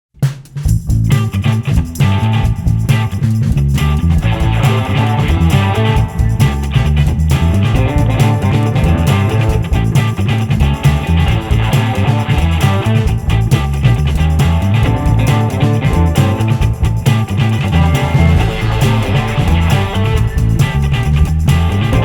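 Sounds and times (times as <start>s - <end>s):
rock music with electric guitar: 1.1s - 22.0s.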